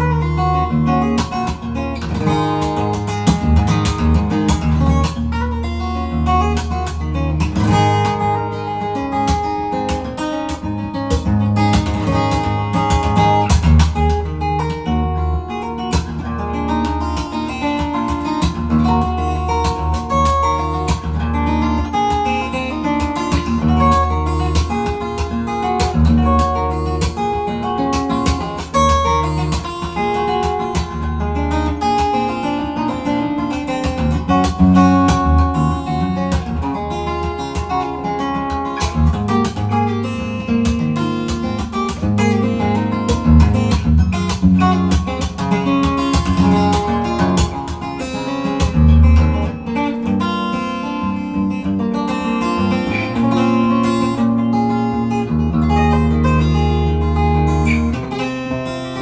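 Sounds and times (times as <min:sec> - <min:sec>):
fingerstyle steel-string guitar: 0:00.0 - 0:59.0.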